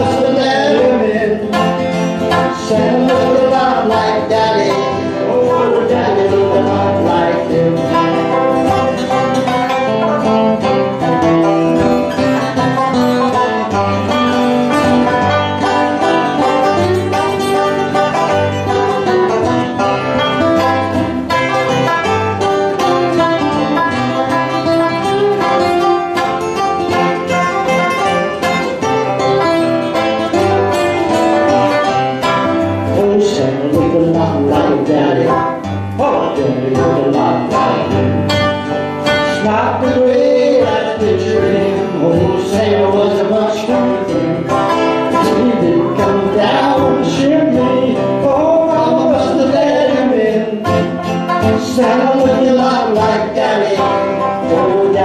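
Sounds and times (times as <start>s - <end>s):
acoustic band playing country song: 0.0s - 55.0s.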